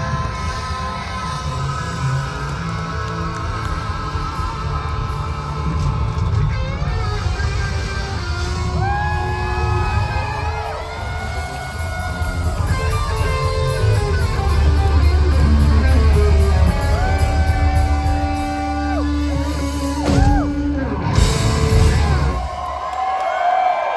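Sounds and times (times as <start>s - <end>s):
electric guitar bending notes: 0.0s - 22.4s
live rock band playing: 0.0s - 22.6s.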